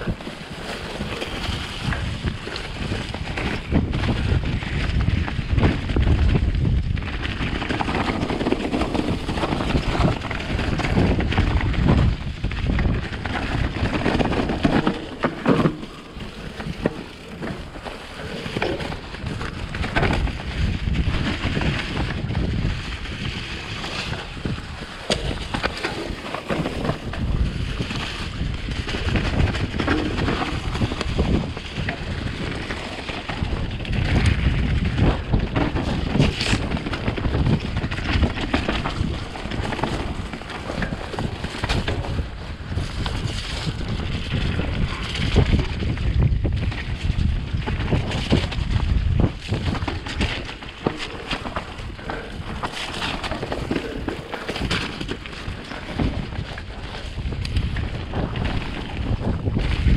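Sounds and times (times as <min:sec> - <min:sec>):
bike rattling and knocking: 0:00.0 - 0:59.9
bike tyres rolling through mud: 0:00.0 - 0:59.9
wind on microphone: 0:00.0 - 0:59.9.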